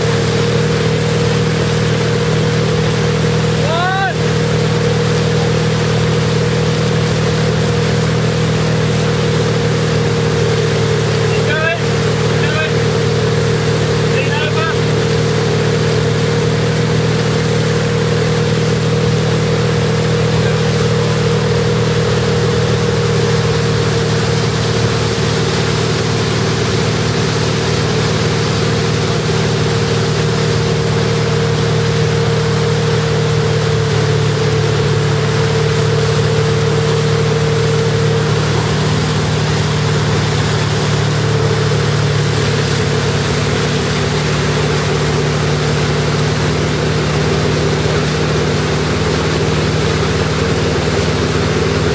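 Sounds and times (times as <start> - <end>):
boat engine running: 0.0 - 51.9
water and wind hiss: 0.0 - 51.9.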